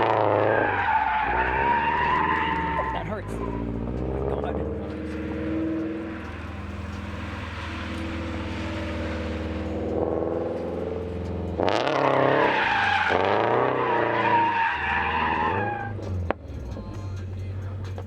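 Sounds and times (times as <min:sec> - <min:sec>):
car engine revving: 0:00.0 - 0:18.0
tyres squealing: 0:00.0 - 0:18.0.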